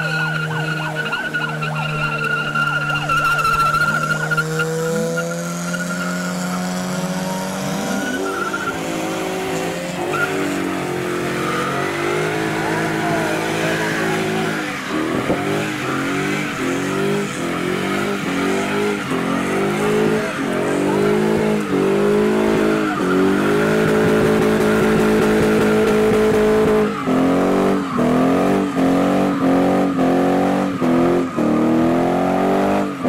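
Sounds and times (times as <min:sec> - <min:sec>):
tyres squealing: 0:00.0 - 0:31.8
car engine revving: 0:00.0 - 0:33.0.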